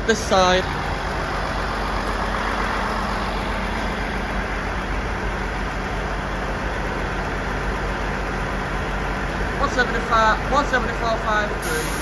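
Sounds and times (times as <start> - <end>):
train diesel engine idling: 0.0 - 12.0.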